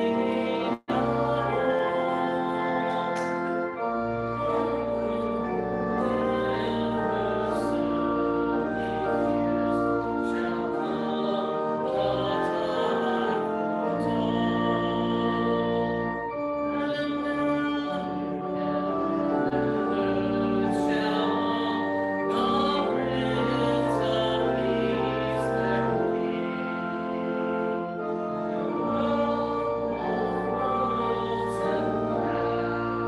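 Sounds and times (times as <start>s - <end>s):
church organ chords: 0.0s - 33.0s.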